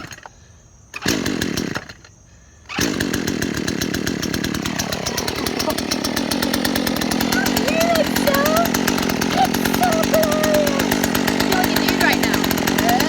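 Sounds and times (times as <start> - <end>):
chainsaw engine running: 1.0 - 2.1, 2.7 - 13.0.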